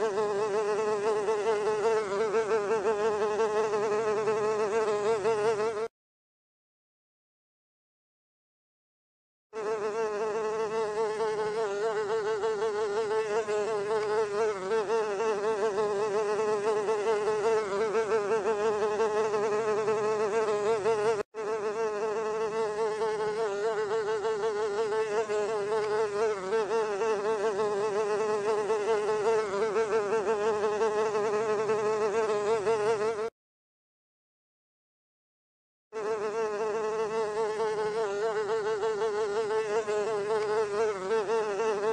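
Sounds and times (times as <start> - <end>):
housefly buzzing: 0.0 - 5.9, 9.6 - 33.4, 35.9 - 41.9.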